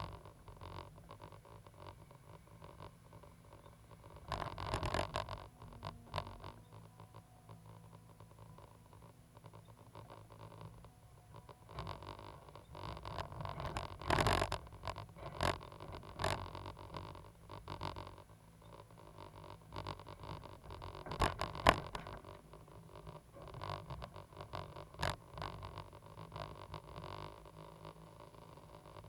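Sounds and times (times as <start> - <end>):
excavator engine rumble: 0.0 - 29.0.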